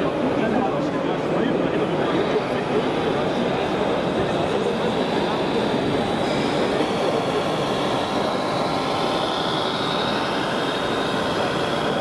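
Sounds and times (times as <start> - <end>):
din of busy hall: 0.0 - 12.0
faint high whine: 0.0 - 12.0.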